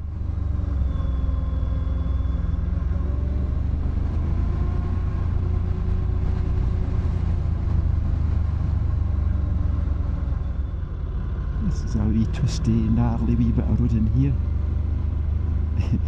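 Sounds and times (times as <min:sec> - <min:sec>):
wind and road noise rumble: 0:00.0 - 0:16.0.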